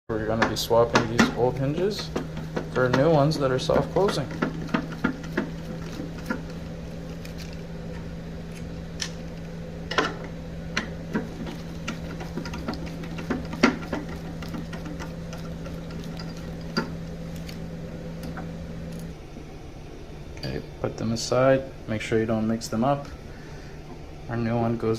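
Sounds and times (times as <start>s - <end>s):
steady low hum: 0.1s - 24.9s.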